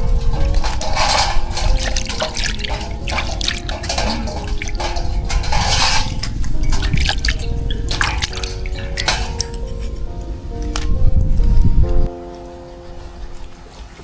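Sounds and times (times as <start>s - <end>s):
water splashing and dripping: 0.0s - 14.0s.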